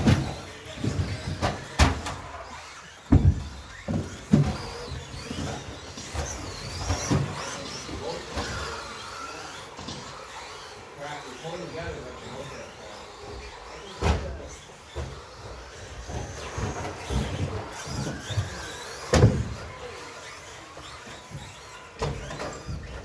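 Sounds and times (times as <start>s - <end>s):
electric toy truck motors whining: 0.0s - 23.0s.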